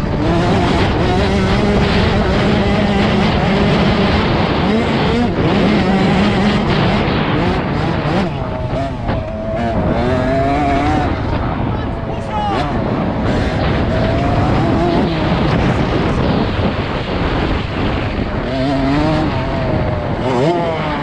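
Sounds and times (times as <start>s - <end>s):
motocross bike engine revving: 0.0s - 21.0s
wind rushing over microphone: 0.0s - 21.0s.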